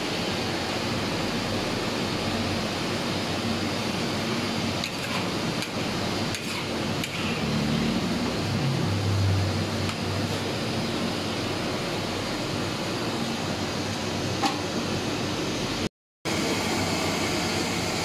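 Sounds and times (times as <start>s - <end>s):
broth boiling in a wok: 0.0s - 18.0s.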